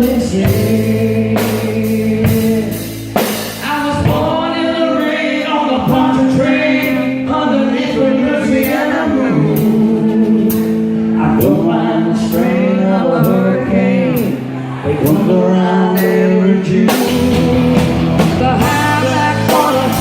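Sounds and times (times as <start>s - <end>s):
bass guitar: 0.0s - 20.0s
drums: 0.0s - 20.0s
people singing: 0.0s - 20.0s.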